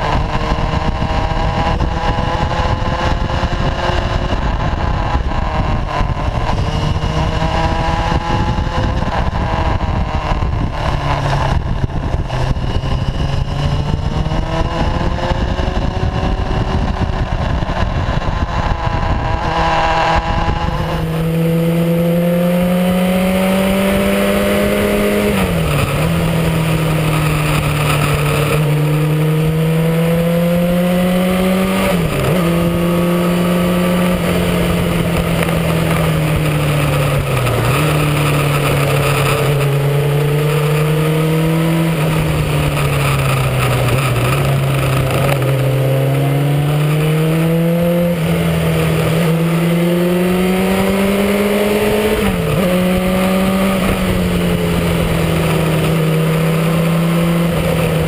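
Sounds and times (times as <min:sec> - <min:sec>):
motorcycle engine accelerating: 0:00.0 - 0:58.0
wind on microphone: 0:00.0 - 0:58.0.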